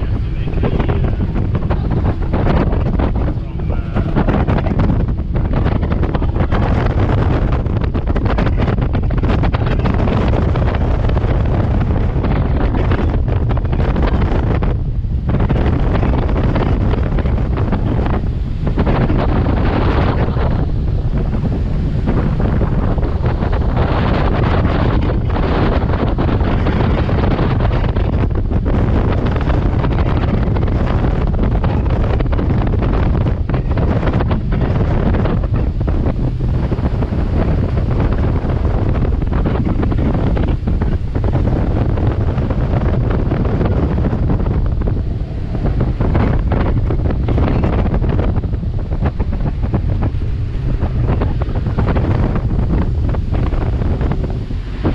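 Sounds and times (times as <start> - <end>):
boat engine drone: 0.0 - 54.9
wind on microphone: 0.0 - 54.9.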